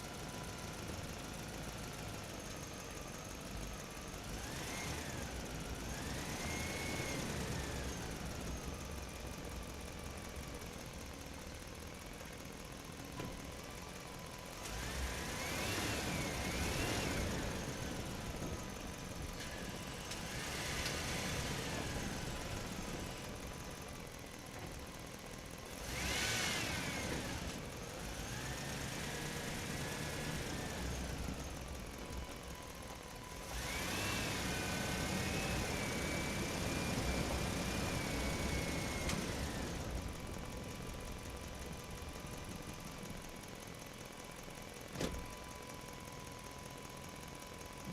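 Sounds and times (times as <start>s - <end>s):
radio-controlled truck motor whine: 0.0s - 10.8s, 13.2s - 24.8s, 25.4s - 42.1s.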